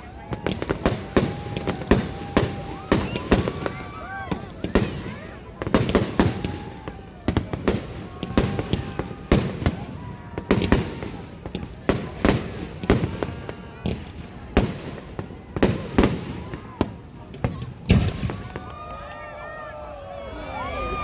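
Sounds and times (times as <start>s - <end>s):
fireworks bursting with bangs: 0.0s - 18.9s.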